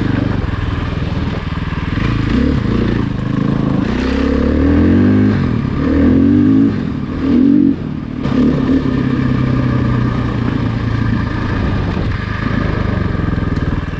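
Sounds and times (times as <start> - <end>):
off-road vehicle engine revving: 0.0 - 13.9.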